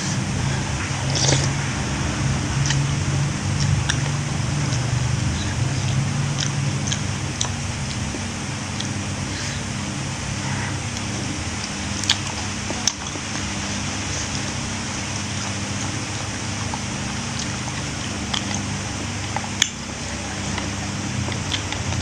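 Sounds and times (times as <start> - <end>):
steady fan hum: 0.0 - 22.0.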